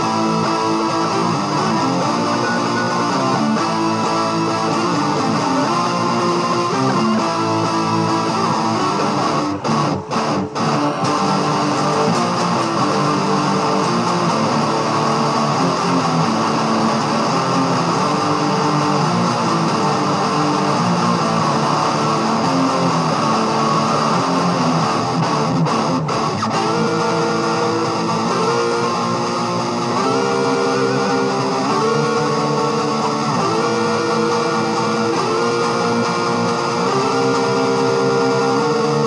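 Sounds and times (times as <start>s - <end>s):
guitar chords strummed: 0.0s - 39.0s.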